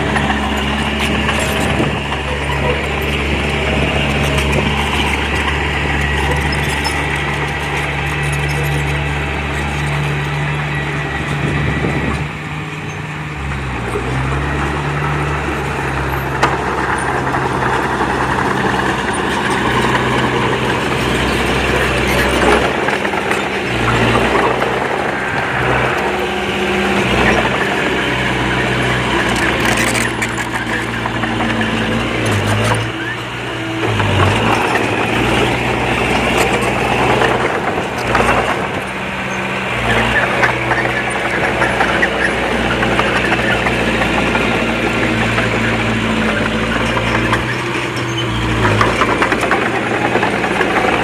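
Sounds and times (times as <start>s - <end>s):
heavy diesel engine: 0.0s - 51.0s.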